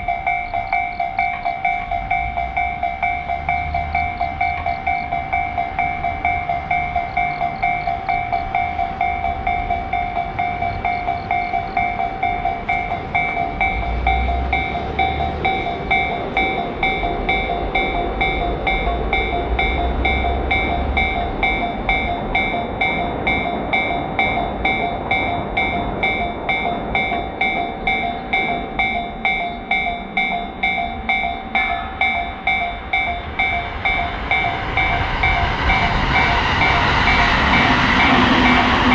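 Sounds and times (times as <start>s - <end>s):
passing train rumble: 0.0s - 38.9s
railroad crossing bell ringing: 0.0s - 38.9s.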